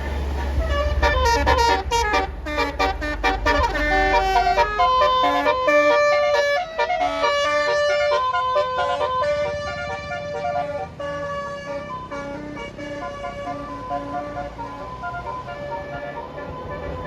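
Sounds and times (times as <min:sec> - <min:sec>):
bus engine rumble: 0:00.0 - 0:17.0
bus multi-tone horn tune: 0:00.0 - 0:17.0.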